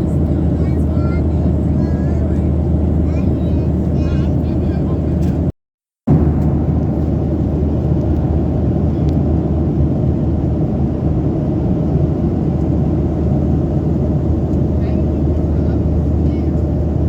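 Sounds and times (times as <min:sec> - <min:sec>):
aircraft cabin engine rumble: 0:00.0 - 0:05.5, 0:06.1 - 0:17.0.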